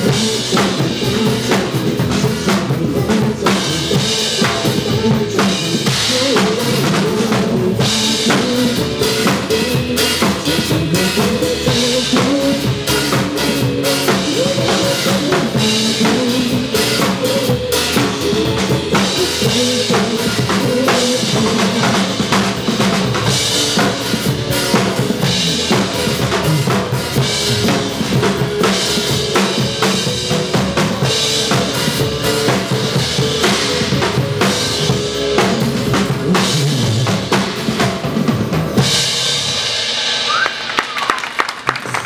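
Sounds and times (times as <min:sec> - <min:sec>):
pop song backing track: 0:00.0 - 0:41.0
crowd noise: 0:00.0 - 0:42.0
drum kit playing: 0:00.0 - 0:42.0.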